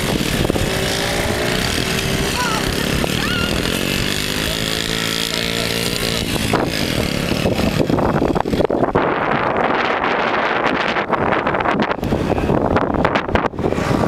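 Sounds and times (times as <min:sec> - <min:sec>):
minibike engine at high revs: 0:00.0 - 0:14.0
wind buffeting microphone: 0:00.0 - 0:14.0.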